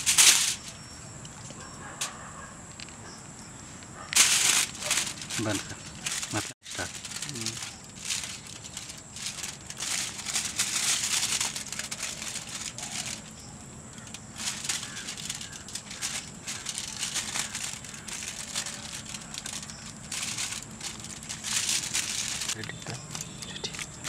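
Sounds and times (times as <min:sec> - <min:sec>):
aluminium foil crinkling: 0:00.0 - 0:00.7, 0:04.1 - 0:24.0.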